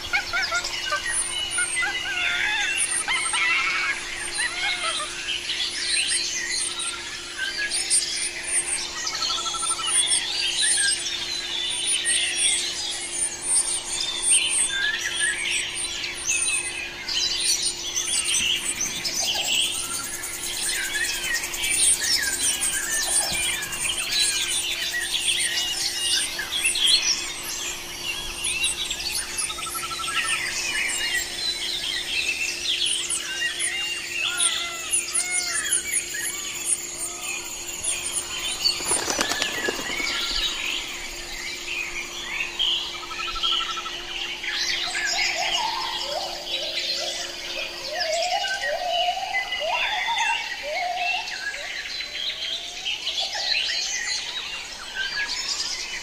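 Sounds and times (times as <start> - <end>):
steady low hum: 0.0 - 49.4
birds chirping and calling: 0.0 - 56.0.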